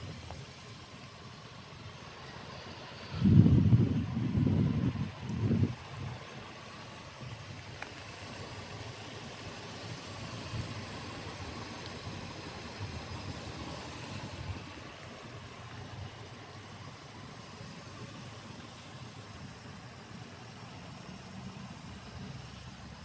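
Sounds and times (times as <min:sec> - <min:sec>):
car engine idling quietly: 0:00.0 - 0:23.0.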